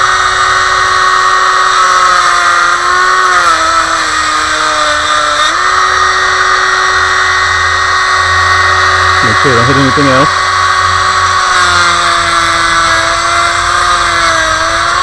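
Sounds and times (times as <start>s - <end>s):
rotary tool whining while cutting: 0.0s - 15.0s.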